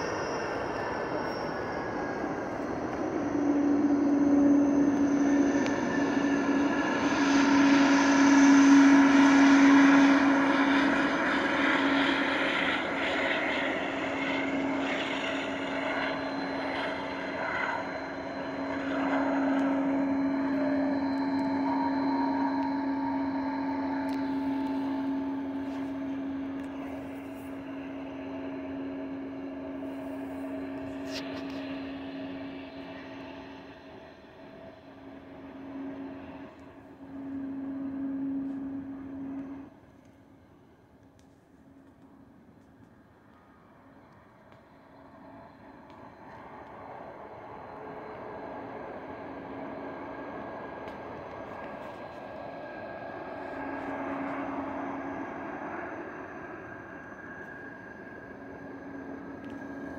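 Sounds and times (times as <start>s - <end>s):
jet engines humming: 0.0s - 59.9s.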